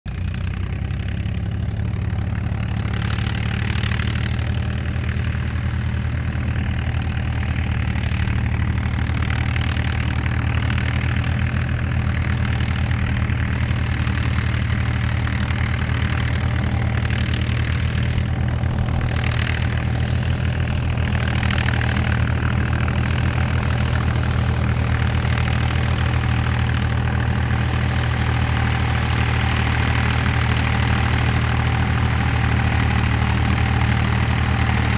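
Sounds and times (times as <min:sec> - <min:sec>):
other tractor engines: 0:00.1 - 0:34.9
tractor diesel engine drone: 0:00.1 - 0:34.9.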